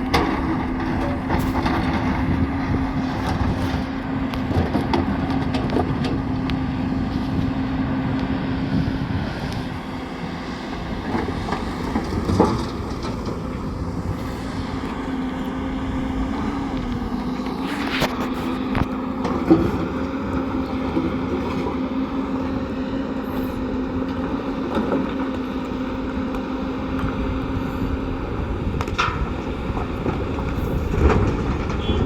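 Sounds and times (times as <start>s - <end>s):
bulldozer diesel engine: 0.0s - 32.0s
steady whine: 0.0s - 32.0s.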